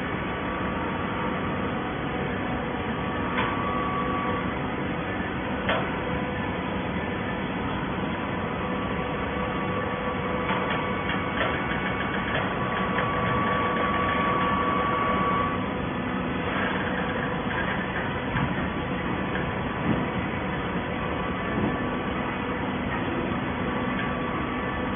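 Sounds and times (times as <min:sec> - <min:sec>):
waste paper baler humming: 0:00.0 - 0:24.9.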